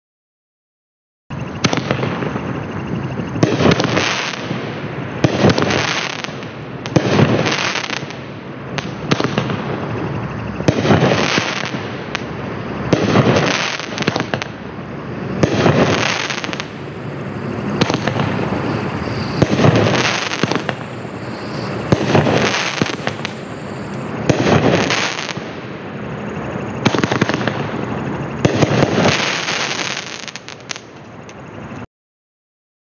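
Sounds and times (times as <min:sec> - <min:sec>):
fireworks bangs and crackle: 0:01.3 - 0:31.4.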